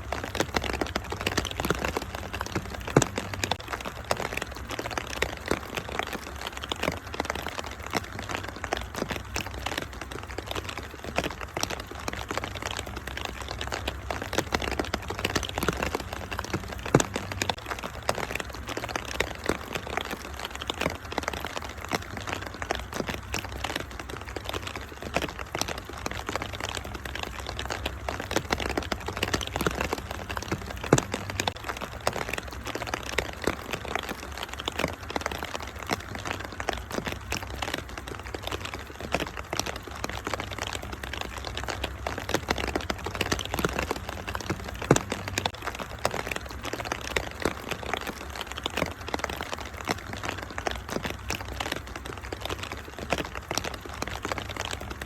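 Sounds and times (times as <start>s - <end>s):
rain hiss: 0.0s - 55.0s
wood fire crackling and popping: 0.0s - 55.0s.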